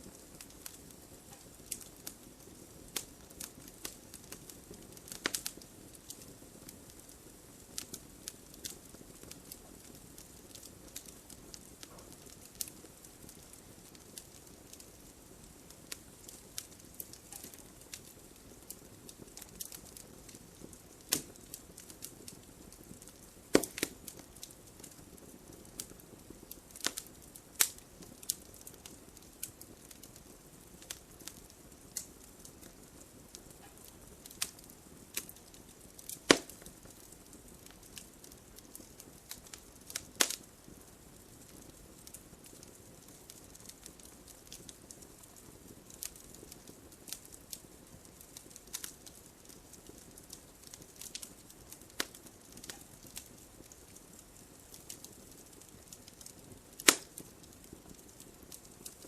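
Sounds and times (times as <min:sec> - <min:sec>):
fire crackling and popping: 0:00.0 - 0:59.0
fire hissing: 0:00.1 - 0:44.8, 0:54.3 - 0:59.0.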